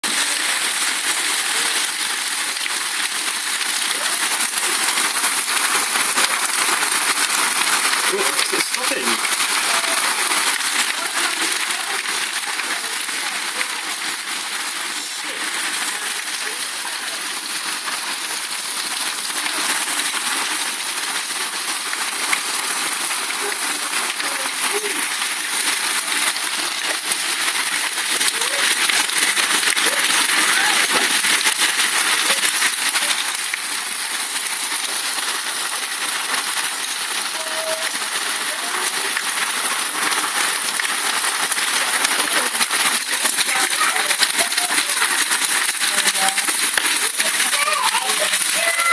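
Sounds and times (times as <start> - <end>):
heavy hail falling: 0.0 - 48.9.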